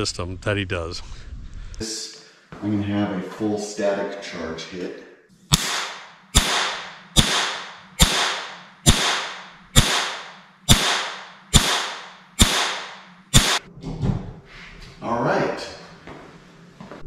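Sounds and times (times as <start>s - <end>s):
steady low hum: 0.0s - 4.9s, 5.5s - 17.0s.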